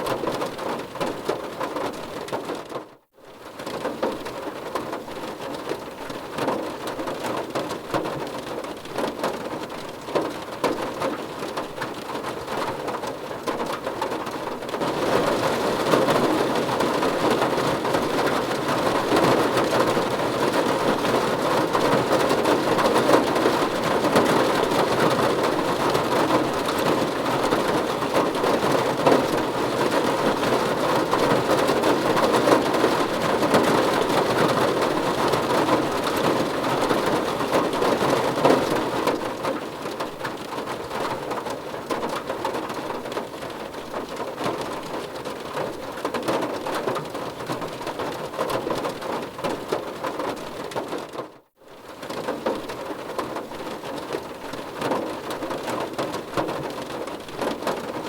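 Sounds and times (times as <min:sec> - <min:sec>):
rain on car roof and windows: 0:00.0 - 0:58.0.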